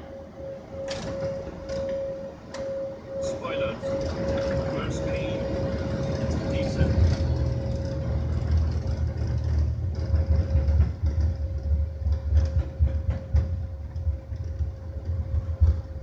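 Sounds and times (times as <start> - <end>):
low rumble of wheels and engines: 0.0 - 16.0
steady hum: 0.0 - 16.0.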